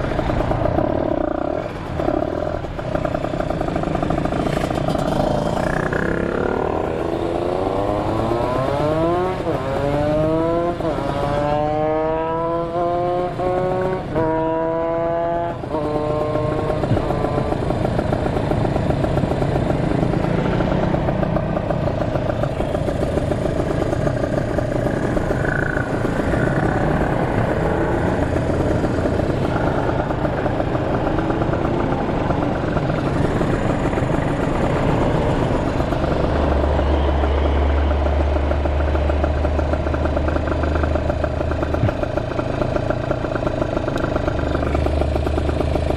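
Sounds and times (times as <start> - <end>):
motorcycle engine accelerating: 0.0 - 45.9
wind and road noise: 0.0 - 45.9.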